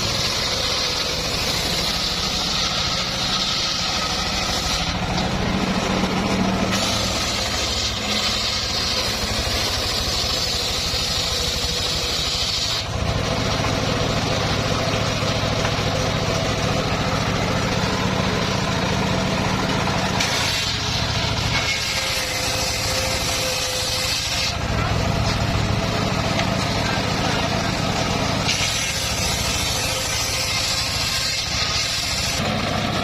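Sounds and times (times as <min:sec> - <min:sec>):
sawmill engine running: 0:00.0 - 0:33.0.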